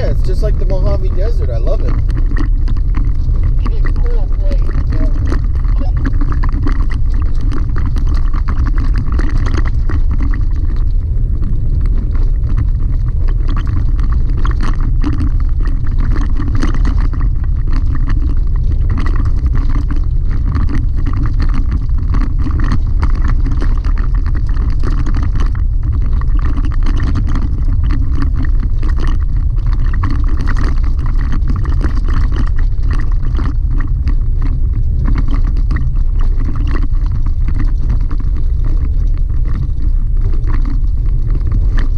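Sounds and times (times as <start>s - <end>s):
engine and tyres rumbling: 0.0s - 41.9s.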